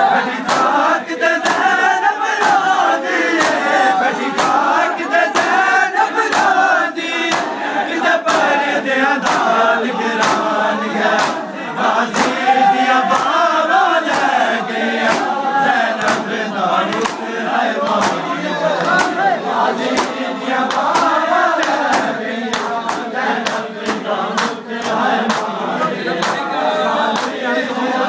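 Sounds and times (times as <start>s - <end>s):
men chanting a lament: 0.0s - 28.0s
hands slapping chests: 0.4s - 8.6s, 9.2s - 9.6s, 10.2s - 11.5s, 12.1s - 25.6s, 26.2s - 27.4s.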